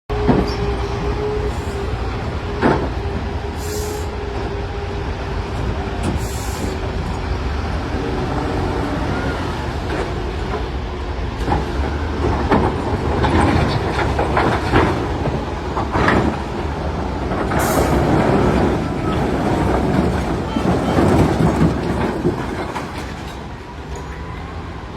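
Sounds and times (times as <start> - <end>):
wheel loader diesel engine: 0.1 - 24.9.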